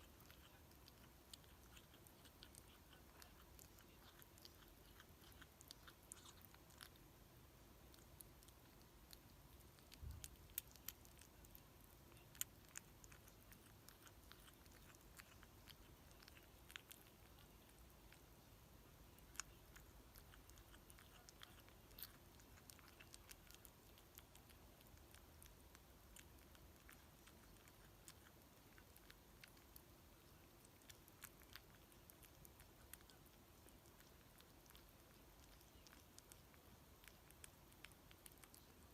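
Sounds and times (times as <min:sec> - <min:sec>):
kitten chewing food: 0:00.0 - 0:38.9.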